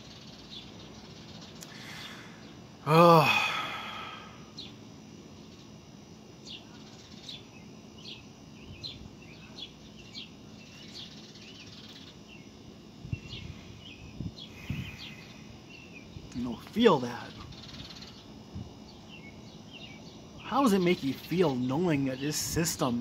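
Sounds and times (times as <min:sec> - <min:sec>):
faint outdoor background noise: 0:00.0 - 0:23.0
small birds chirping: 0:00.0 - 0:23.0.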